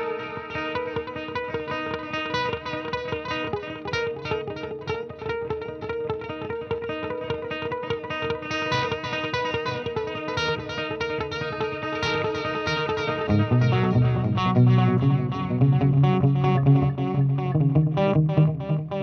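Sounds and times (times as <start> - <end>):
electric guitar with echo delay: 0.0 - 19.0.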